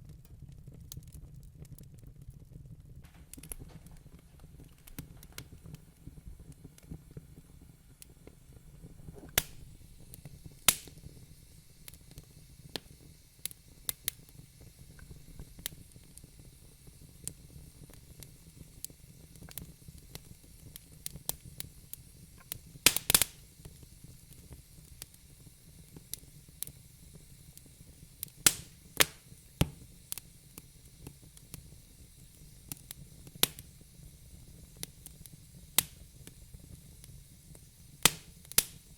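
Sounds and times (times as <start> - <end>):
fire crackles and pops: 0.0 - 38.9
fire low rumble: 0.0 - 38.9.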